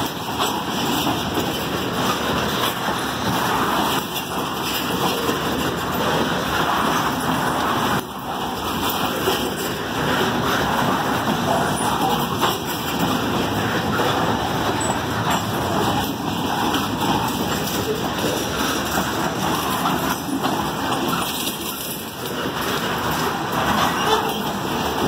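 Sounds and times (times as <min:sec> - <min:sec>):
freight train wheels rolling on rails: 0:00.0 - 0:25.0.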